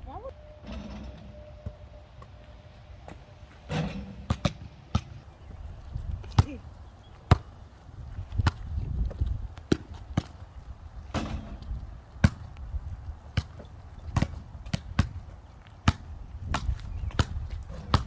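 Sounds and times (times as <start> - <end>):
basketball bouncing on pavement: 3.1 - 18.0.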